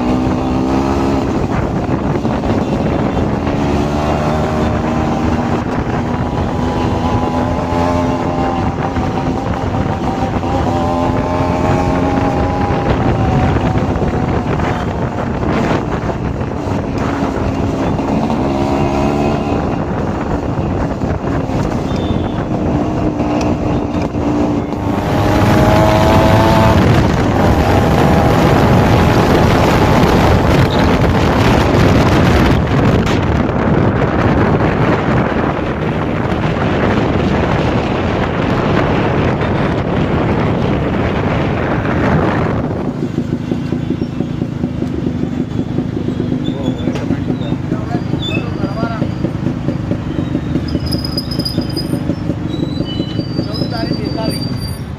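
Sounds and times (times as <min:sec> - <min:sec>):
motorcycle exhaust revving: 0:00.0 - 0:54.9
wind noise on microphone: 0:00.0 - 0:54.9.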